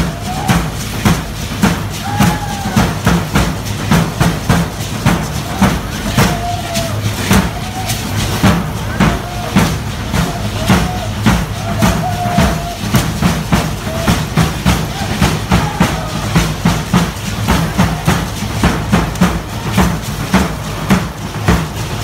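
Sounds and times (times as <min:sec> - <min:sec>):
drums beaten in steady rhythm: 0:00.0 - 0:22.0
hand rattles shaking: 0:00.0 - 0:22.0.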